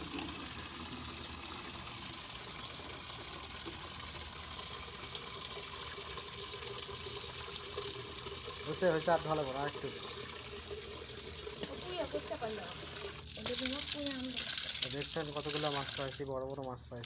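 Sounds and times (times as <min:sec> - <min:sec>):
water gushing: 0:00.0 - 0:17.0.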